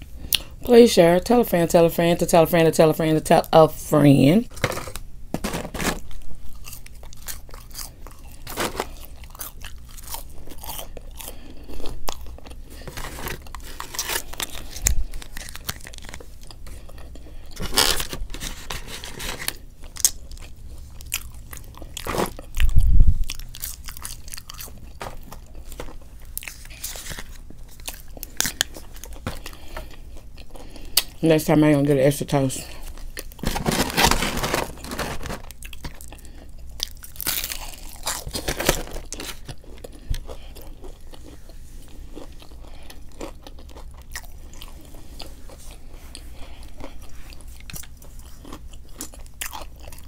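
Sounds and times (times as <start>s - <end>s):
person chewing crunchy food: 4.5s - 31.2s, 32.6s - 50.0s.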